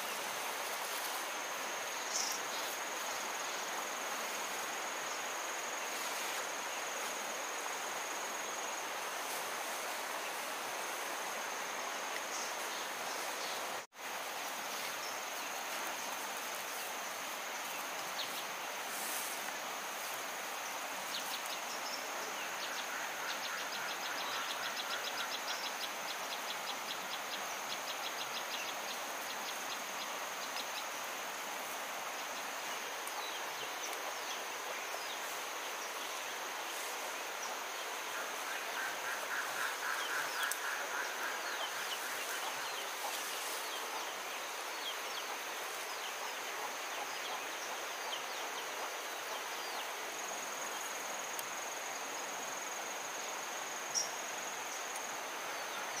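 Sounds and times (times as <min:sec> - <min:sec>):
constant hiss: 0:00.0 - 0:56.0
rapid insect or bird trills: 0:00.0 - 0:56.0.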